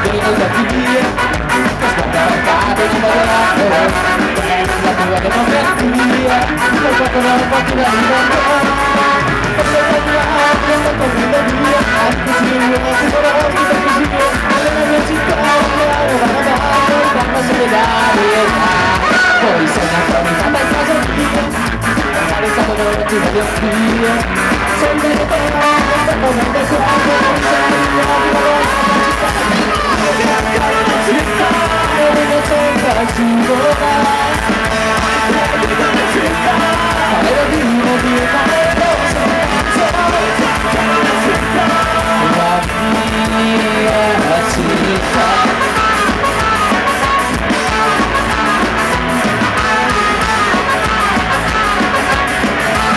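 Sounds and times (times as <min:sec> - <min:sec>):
ska-punk band playing live: 0:00.0 - 0:52.9
sung vocals: 0:00.0 - 0:52.9.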